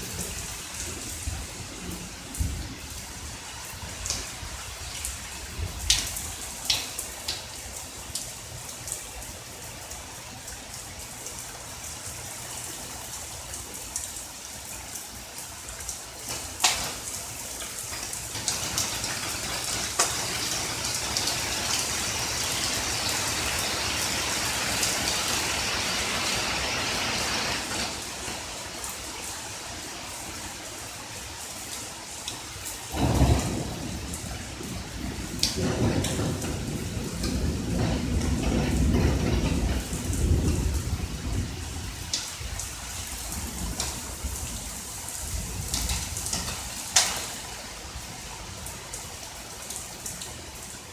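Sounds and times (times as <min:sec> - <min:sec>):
raindrops tapping: 0:00.0 - 0:14.3, 0:14.9 - 0:29.4, 0:31.4 - 0:50.8
steady rain falling: 0:00.0 - 0:50.9.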